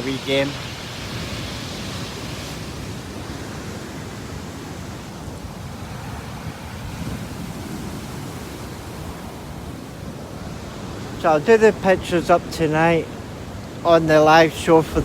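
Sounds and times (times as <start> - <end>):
sea surf washing onto beach: 0.0 - 15.0.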